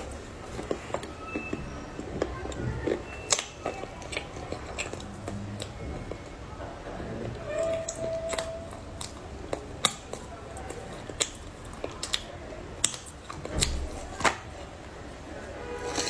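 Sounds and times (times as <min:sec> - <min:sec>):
crunchy clay being chewed: 0:00.0 - 0:16.0.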